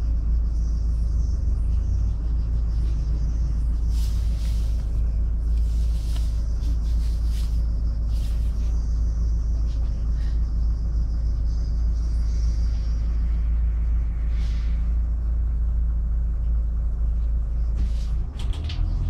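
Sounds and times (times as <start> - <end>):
bus engine rumbling: 0.0 - 19.0.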